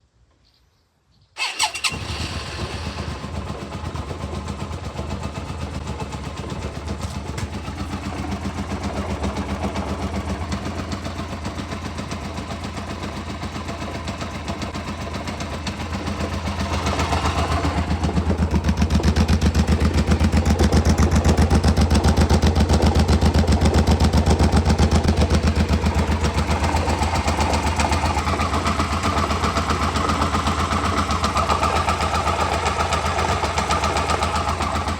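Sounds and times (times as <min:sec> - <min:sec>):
motorcycle engine starting and idling: 0:01.4 - 0:34.9.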